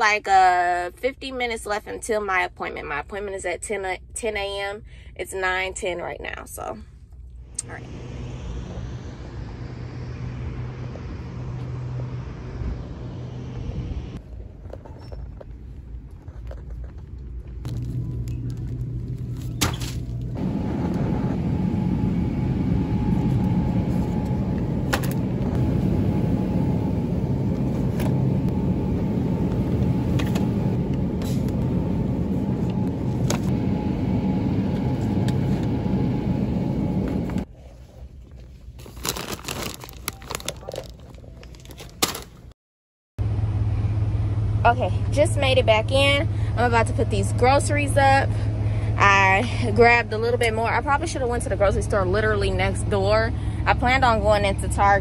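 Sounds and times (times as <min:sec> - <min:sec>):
vehicle engine rumbling: 0:06.6 - 0:42.5, 0:43.2 - 0:55.0.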